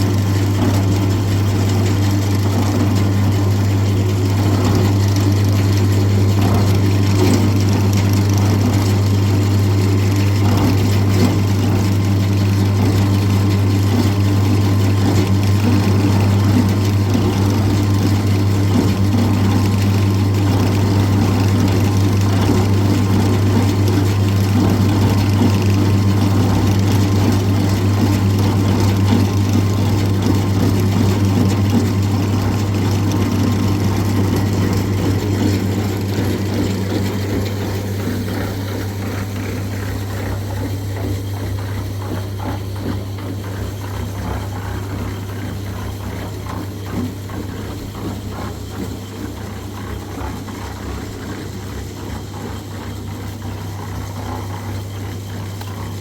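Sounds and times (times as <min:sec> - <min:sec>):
engine humming with clatter: 0:00.0 - 0:56.0.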